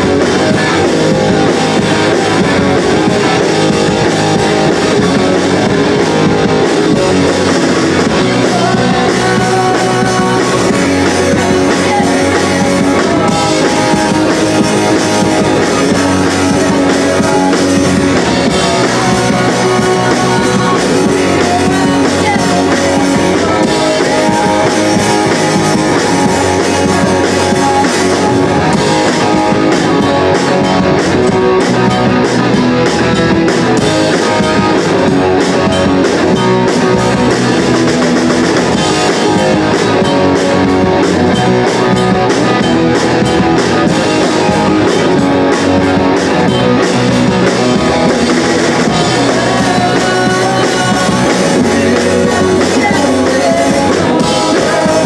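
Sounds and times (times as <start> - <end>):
distorted electric guitars: 0.0 - 55.0
drum kit: 0.0 - 55.0.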